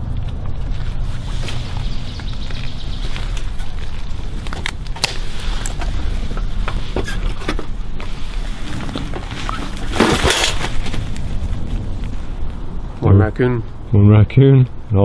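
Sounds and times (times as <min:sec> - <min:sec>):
leaf and brush rustling: 0:00.0 - 0:12.9.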